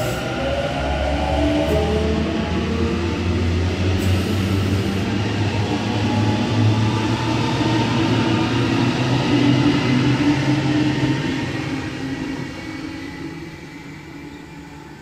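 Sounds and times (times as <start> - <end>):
trains rumbling past: 0.0 - 15.0.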